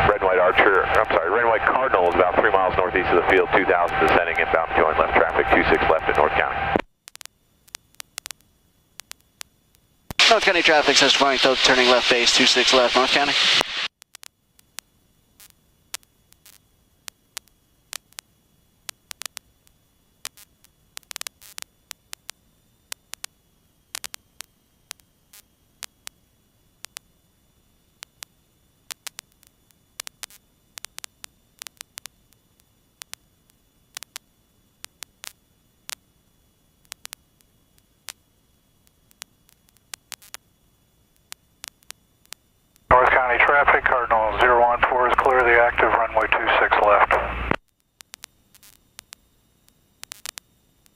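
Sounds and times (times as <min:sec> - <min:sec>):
radio static hiss: 0:00.0 - 0:50.9
crackling clicks: 0:00.8 - 0:10.3, 0:10.9 - 0:50.9.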